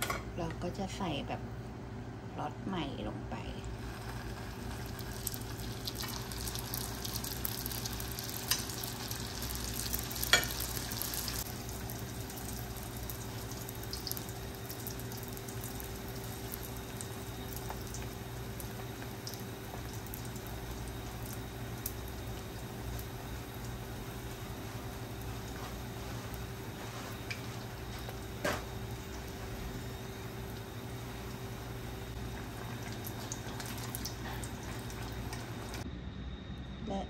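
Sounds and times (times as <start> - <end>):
deep-frying oil sizzling: 3.7 - 35.8.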